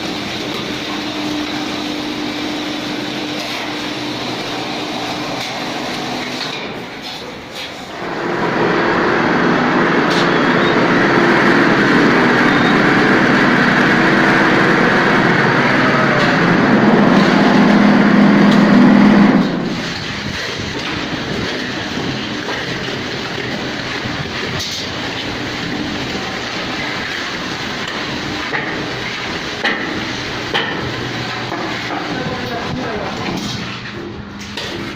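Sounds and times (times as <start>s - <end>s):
plastering machine motor hum: 0.0s - 34.9s.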